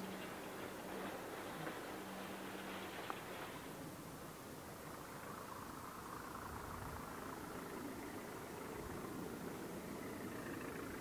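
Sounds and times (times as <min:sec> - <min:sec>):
distant engine hum: 0:00.0 - 0:11.0.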